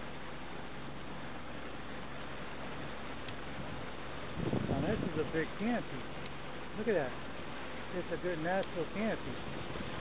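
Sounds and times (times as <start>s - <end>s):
outboard motor running slowly: 0.0s - 10.0s.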